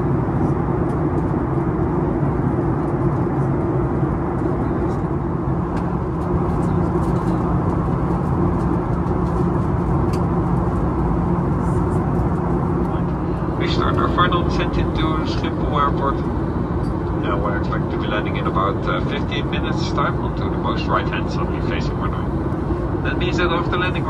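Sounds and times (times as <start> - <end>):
jet cabin engine drone: 0.0 - 24.0.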